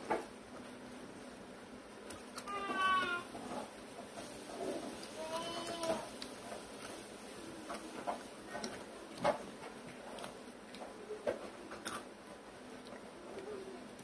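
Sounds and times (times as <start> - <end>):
light eating clicks and crunches: 1.8 - 14.0.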